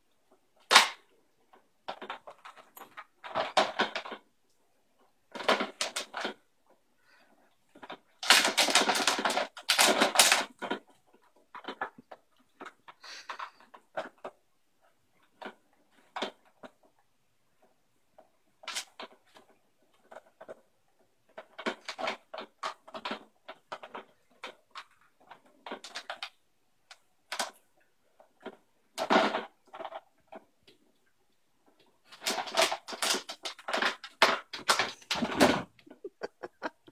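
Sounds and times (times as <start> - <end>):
plastic puzzle feeder rattling: 0.6 - 4.3, 5.0 - 6.5, 7.7 - 14.4, 18.5 - 31.0, 31.6 - 36.9.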